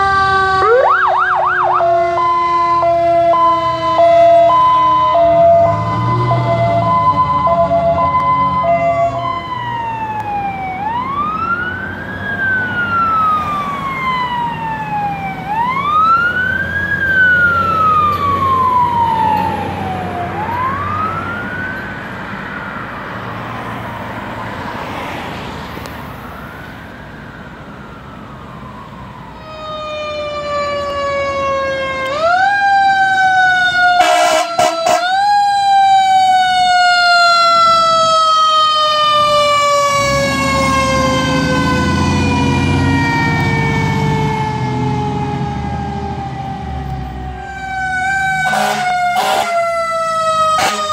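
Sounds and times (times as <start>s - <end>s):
fire truck sirens wailing: 0.0s - 50.9s.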